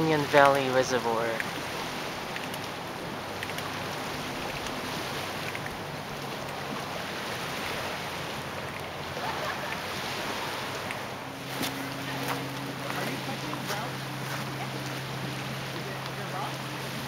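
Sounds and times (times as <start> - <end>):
distant boat engine droning: 0.0 - 17.0
waves lapping on rocky shore: 0.0 - 17.0
wind: 0.0 - 17.0.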